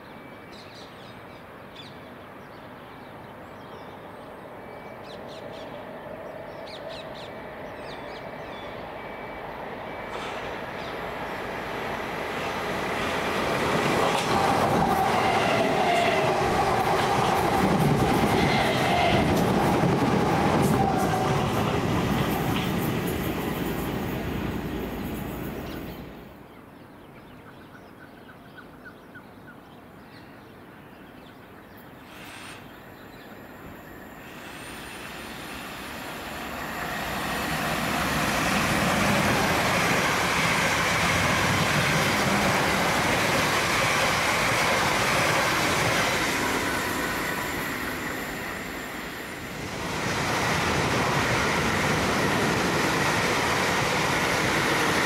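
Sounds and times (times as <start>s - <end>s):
electric train passing: 3.1s - 26.5s, 32.0s - 55.0s
train wheels on rails: 4.6s - 26.3s, 32.0s - 55.0s.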